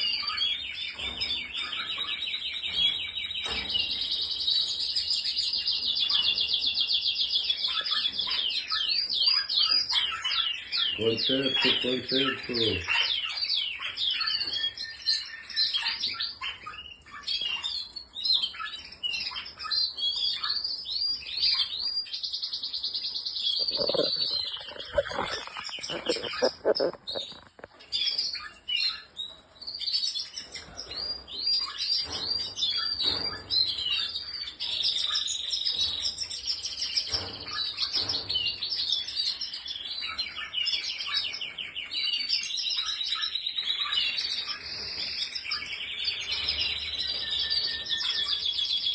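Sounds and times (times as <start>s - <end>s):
canaries singing: 0.0s - 48.9s.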